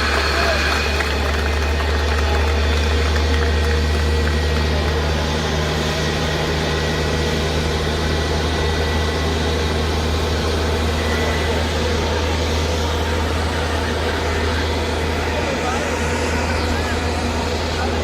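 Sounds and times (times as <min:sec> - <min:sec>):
jet airliner engine noise: 0:00.0 - 0:18.0.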